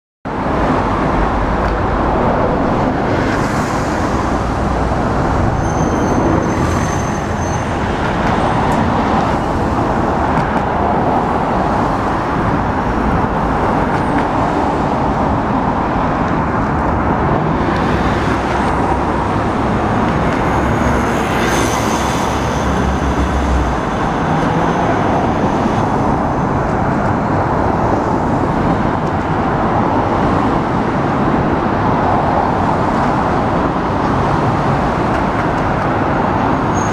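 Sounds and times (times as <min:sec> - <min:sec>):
cars passing on street: 0:00.3 - 0:36.9.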